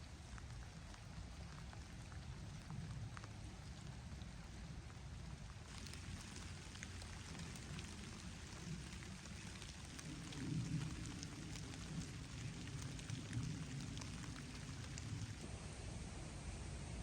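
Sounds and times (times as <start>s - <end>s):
raindrops ticking: 0.0s - 15.4s
rain falling: 0.0s - 15.5s.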